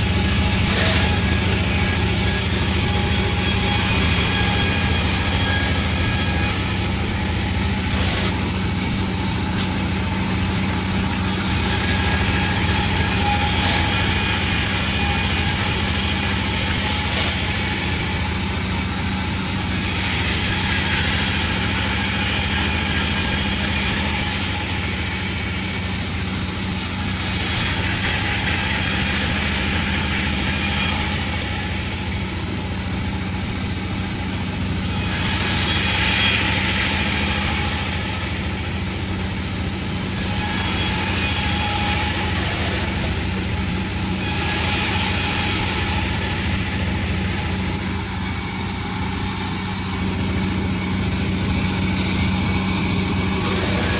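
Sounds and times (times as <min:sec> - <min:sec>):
saw blade cutting wood: 0:00.0 - 0:53.9
sawmill humming: 0:00.0 - 0:53.9.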